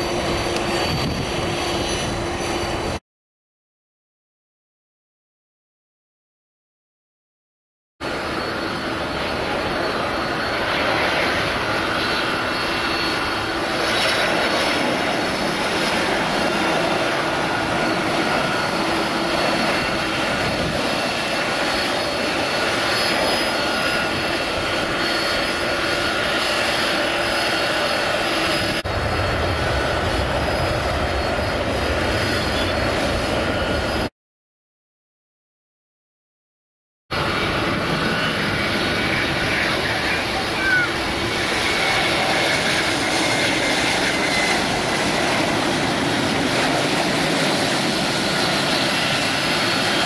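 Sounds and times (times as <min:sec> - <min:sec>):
jet engines with high whine: 0:00.0 - 0:03.0, 0:08.0 - 0:34.1, 0:37.1 - 0:50.0
low rumble of taxiing jet: 0:00.0 - 0:03.0, 0:08.0 - 0:34.1, 0:37.1 - 0:50.0.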